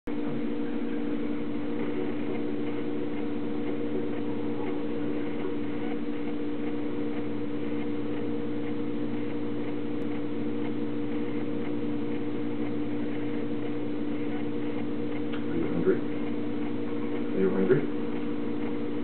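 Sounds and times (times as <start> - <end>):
low mechanical hum: 0.1 - 19.0
faint regular ticking: 0.9 - 19.0.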